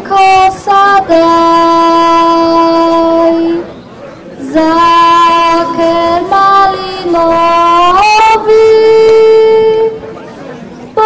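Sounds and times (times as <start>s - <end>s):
girl singing solo: 0.0s - 3.6s, 4.4s - 10.0s.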